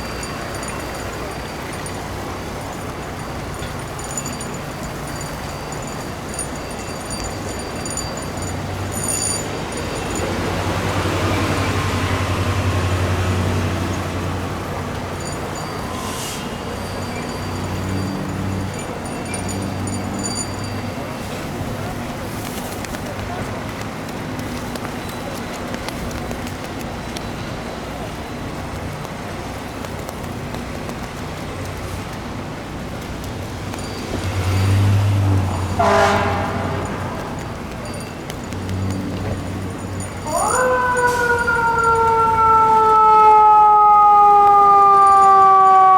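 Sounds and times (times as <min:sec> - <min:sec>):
heavy vehicle engine passing: 0:00.0 - 0:45.9
road noise: 0:00.0 - 0:45.9
street traffic noise: 0:00.0 - 0:45.9.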